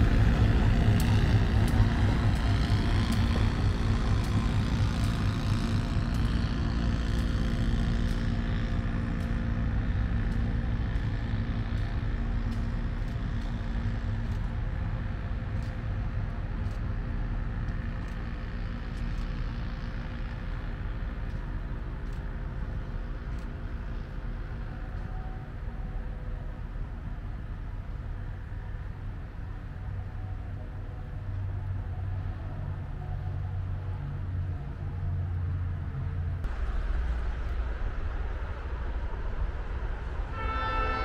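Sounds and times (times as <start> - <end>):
locomotive diesel engine running: 0.0 - 40.4.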